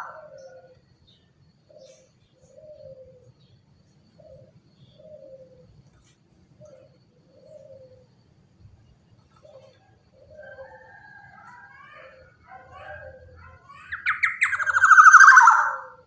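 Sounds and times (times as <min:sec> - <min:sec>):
dove cooing: 0:00.0 - 0:00.9, 0:01.6 - 0:03.5, 0:04.1 - 0:05.9, 0:06.5 - 0:08.2, 0:09.2 - 0:16.0
faint high bird chirps: 0:00.0 - 0:16.0.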